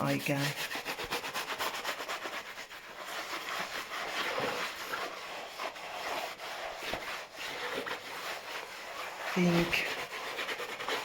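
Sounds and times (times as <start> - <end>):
sandpaper scuffing painting surface: 0.0 - 11.0.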